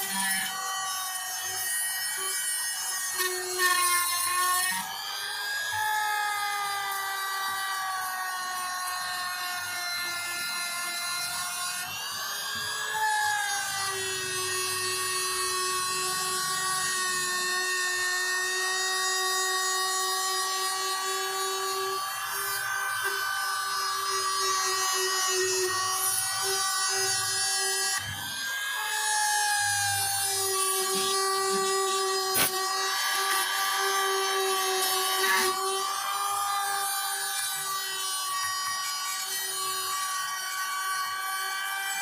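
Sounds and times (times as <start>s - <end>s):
power tool motor whining: 0.0s - 42.0s.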